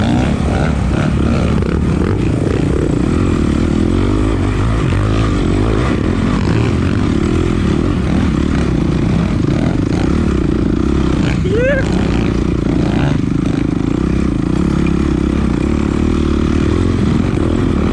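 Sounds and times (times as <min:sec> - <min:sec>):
dirt bike engine running: 0:00.0 - 0:17.9.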